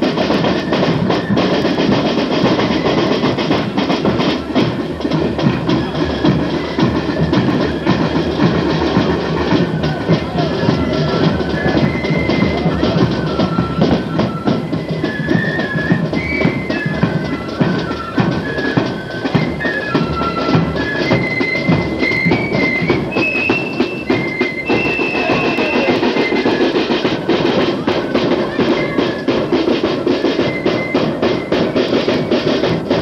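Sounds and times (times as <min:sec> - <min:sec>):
flutes playing melody: 0:00.0 - 0:33.0.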